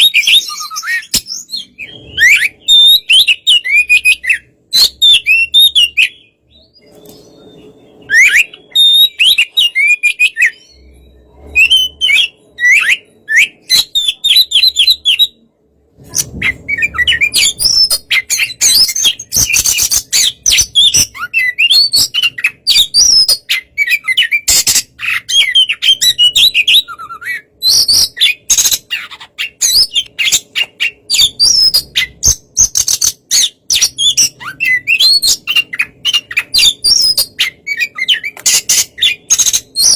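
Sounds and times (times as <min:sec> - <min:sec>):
bird singing whistles and chirps: 0:00.0 - 0:15.5, 0:16.1 - 0:39.9.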